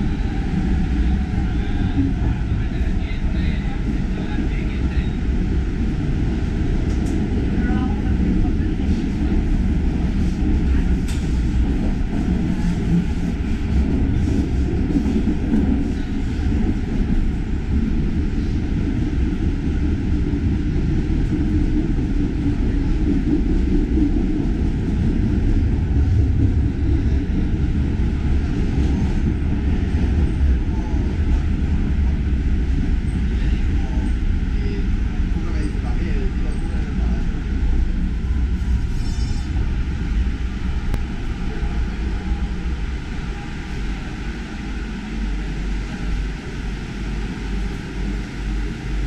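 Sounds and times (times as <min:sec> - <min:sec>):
train rumbling in tunnel: 0:00.0 - 0:49.0.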